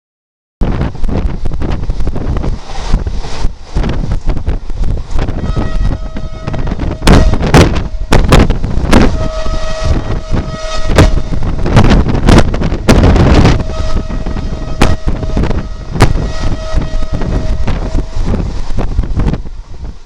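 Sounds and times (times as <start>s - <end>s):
wind buffeting microphone: 0.6s - 20.0s
train passing: 0.8s - 20.0s.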